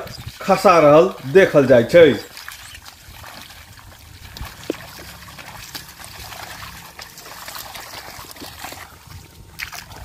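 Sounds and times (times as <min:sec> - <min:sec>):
water and mud splashing: 0:00.0 - 0:10.0.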